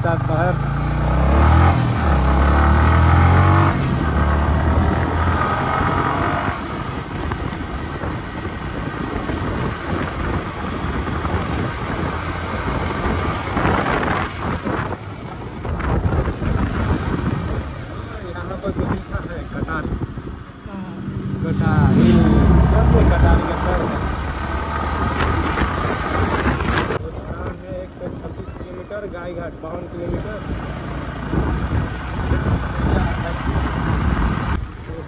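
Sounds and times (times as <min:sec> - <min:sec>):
motorcycle engine drone: 0:00.0 - 0:35.0
wind buffeting microphone: 0:01.2 - 0:35.0.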